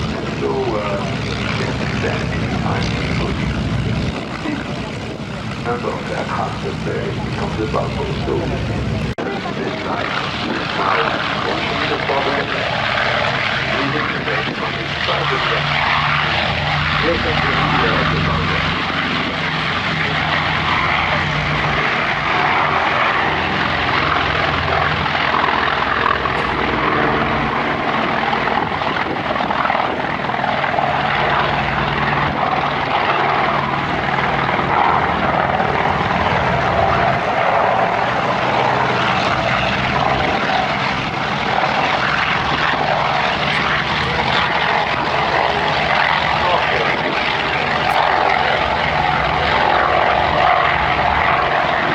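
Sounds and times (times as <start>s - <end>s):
propeller planes droning overhead: 0.0s - 51.9s.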